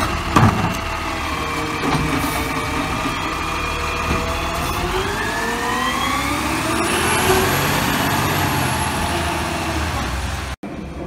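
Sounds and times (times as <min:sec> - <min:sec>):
garbage truck diesel engine accelerating: 0:00.0 - 0:11.0.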